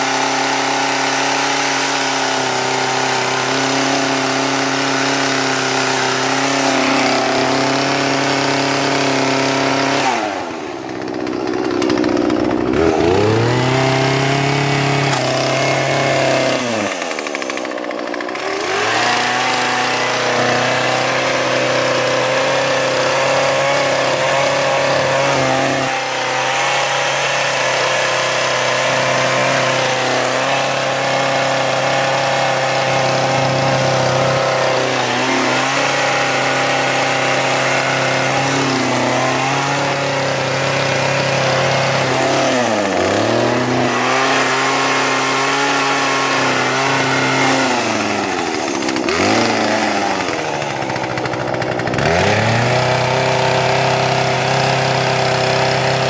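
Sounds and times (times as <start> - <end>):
chainsaw cutting: 0.0 - 56.0.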